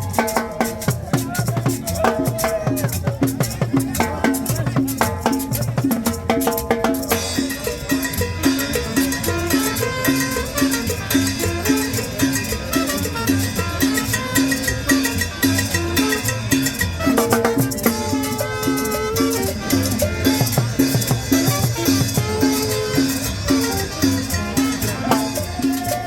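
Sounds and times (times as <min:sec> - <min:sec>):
latin dance music: 0:00.0 - 0:26.0.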